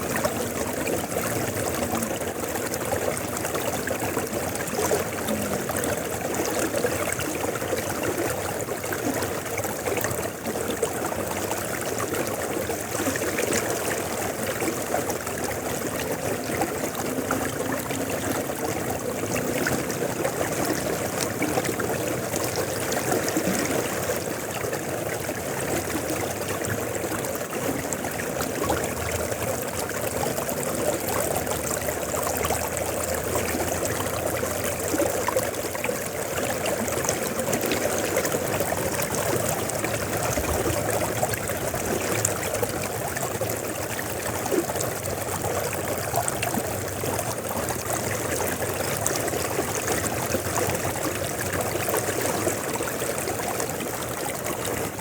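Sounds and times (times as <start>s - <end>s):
river water rushing and burbling: 0.0s - 55.0s
small water splashes: 0.0s - 55.0s.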